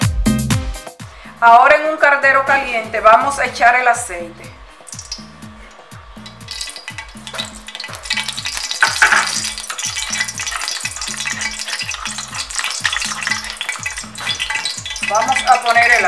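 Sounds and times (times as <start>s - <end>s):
background music with bass line: 0.0s - 1.2s, 2.5s - 16.0s
cooking oil crackling and sizzling: 3.1s - 16.0s.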